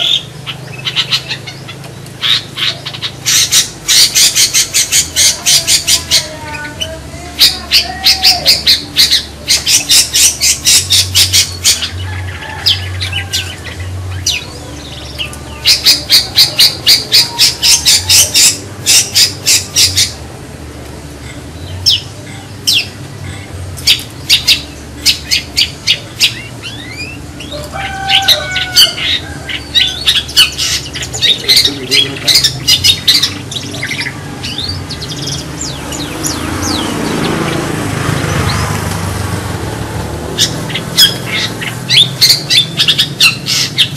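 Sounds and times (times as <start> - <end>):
shrike harsh chattering calls: 0.0 - 20.4, 21.1 - 43.9.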